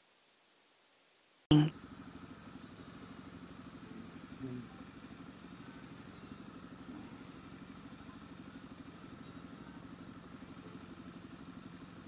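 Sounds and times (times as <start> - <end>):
motorcycle engine idling: 1.6 - 12.0.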